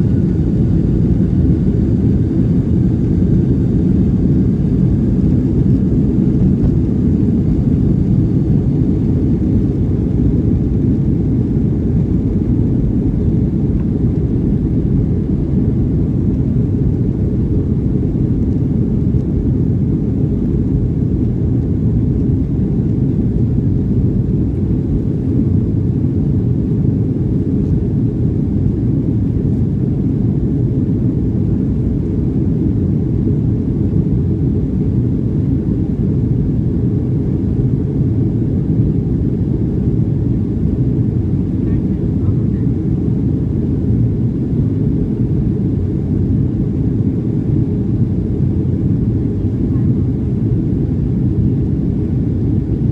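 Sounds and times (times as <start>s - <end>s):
jet airliner engines roaring: 0.0s - 52.9s.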